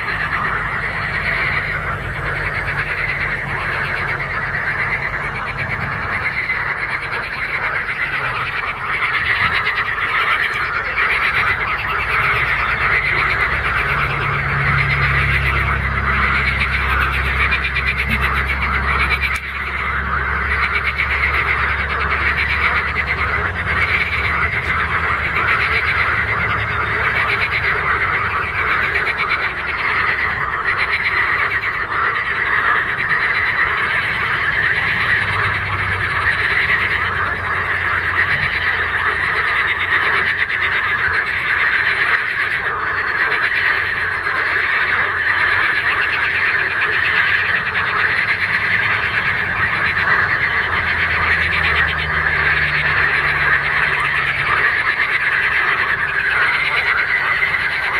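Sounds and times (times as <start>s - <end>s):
chorus of frogs croaking: 0.0s - 57.9s.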